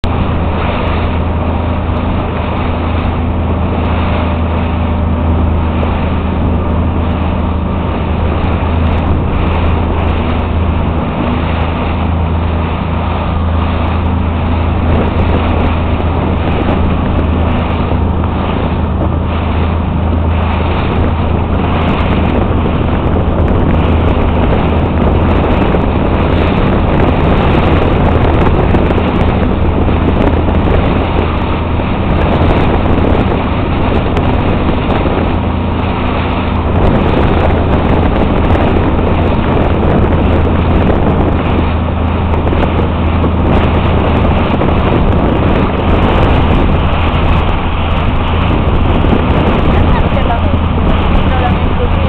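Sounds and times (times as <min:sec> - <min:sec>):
motorboat engine drone: 0:00.0 - 0:52.0
rushing water: 0:00.0 - 0:52.0
wind noise on microphone: 0:00.0 - 0:52.0.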